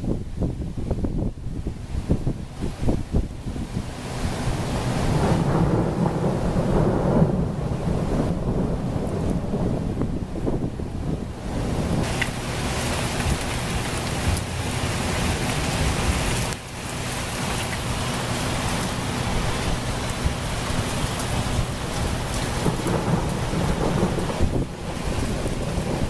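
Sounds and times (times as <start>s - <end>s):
low rumble of thunder: 0.0s - 16.8s, 17.8s - 26.0s
heavy rain pouring: 0.0s - 26.0s.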